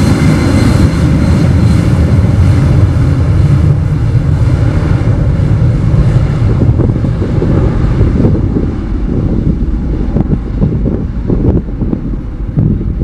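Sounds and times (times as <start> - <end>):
jet engines rumbling: 0.0 - 13.0
wind buffeting microphone: 0.0 - 13.0.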